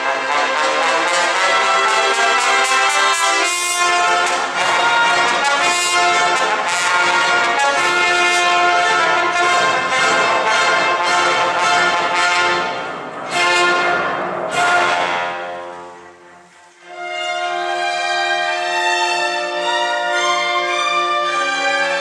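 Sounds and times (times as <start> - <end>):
solo trombone: 0.0 - 18.6
symphony orchestra: 0.0 - 22.0.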